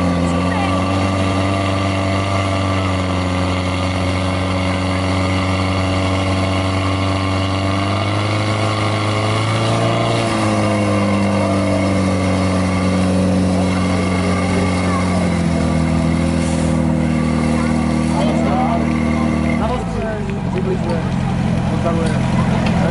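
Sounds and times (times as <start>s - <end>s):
fire pump engine running hard: 0.0s - 22.9s.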